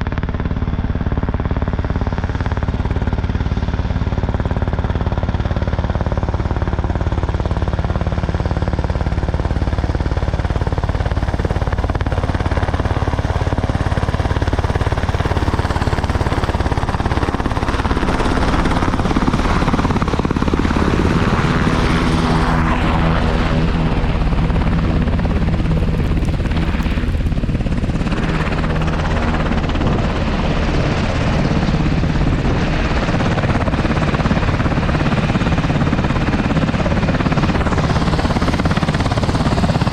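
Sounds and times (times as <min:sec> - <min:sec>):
helicopter rotor beating: 0:00.0 - 0:39.9.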